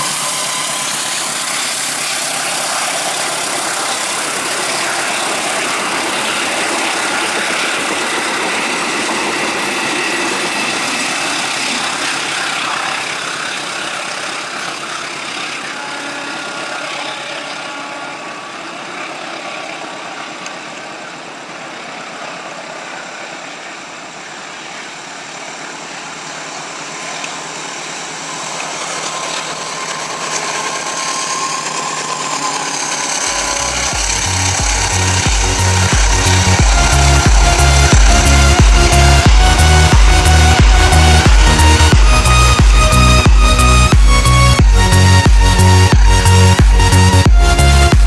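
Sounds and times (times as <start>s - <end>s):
train coaches passing on rails: 0.0s - 48.0s.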